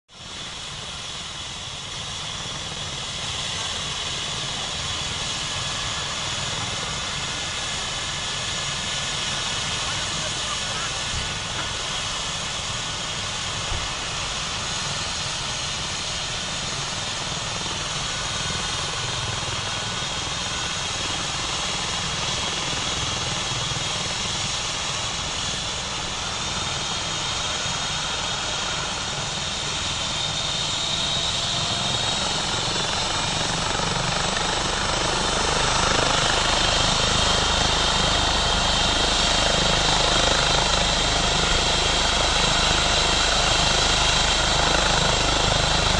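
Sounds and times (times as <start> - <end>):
helicopter engine and rotor: 0.1 - 45.9.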